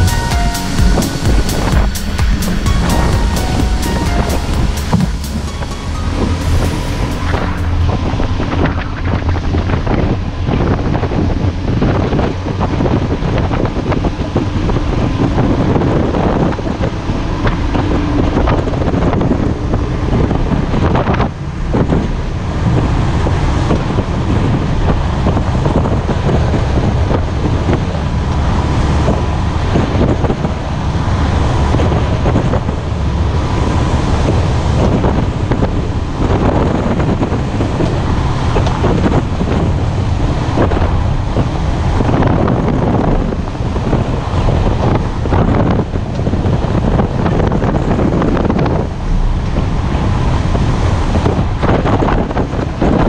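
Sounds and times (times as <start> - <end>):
boat engine drone: 0.0 - 53.0
wind buffeting microphone: 0.0 - 53.0.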